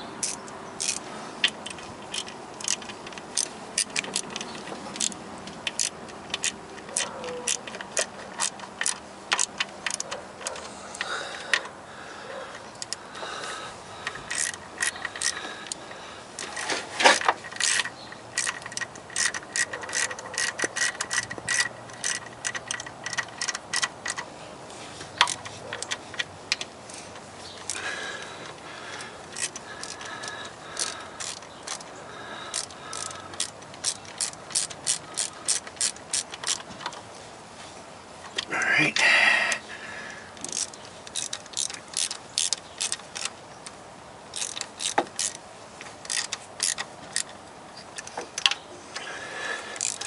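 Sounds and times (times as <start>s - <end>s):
ratchet wrench clicking: 0.0s - 11.7s, 12.7s - 13.0s, 14.0s - 15.8s, 16.4s - 24.3s, 25.2s - 37.0s, 38.9s - 50.0s.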